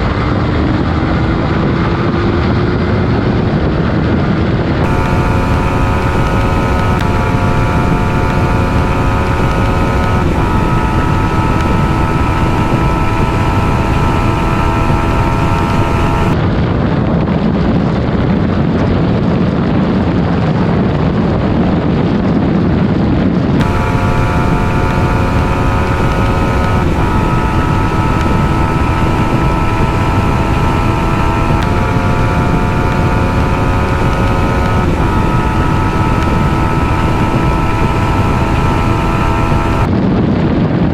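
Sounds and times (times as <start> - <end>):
motorcycle engine at high revs: 0.0 - 16.4, 23.6 - 40.0
wind rushing over microphone: 0.0 - 40.9.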